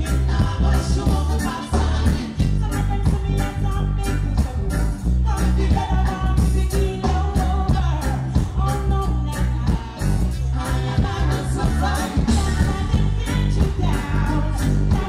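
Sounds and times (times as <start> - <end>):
band with heavy bass: 0.0 - 15.0
woman singing reggae into microphone: 0.0 - 15.0.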